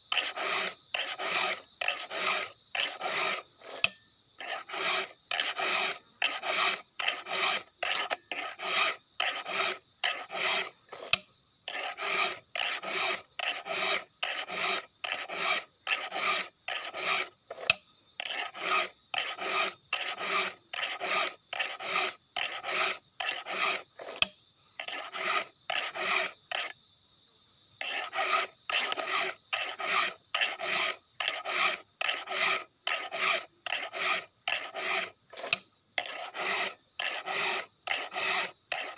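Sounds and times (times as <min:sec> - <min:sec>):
file rasping on chainsaw chain: 0:00.0 - 0:26.8, 0:27.8 - 0:38.9.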